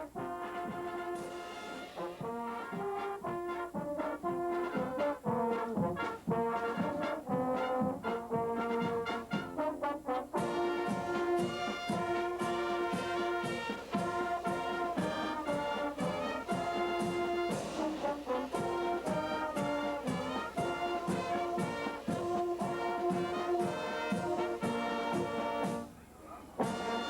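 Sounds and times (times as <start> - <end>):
steady drumbeat: 0.0 - 9.7, 10.4 - 26.0, 26.6 - 27.0
trombones and trumpets playing: 0.0 - 27.0.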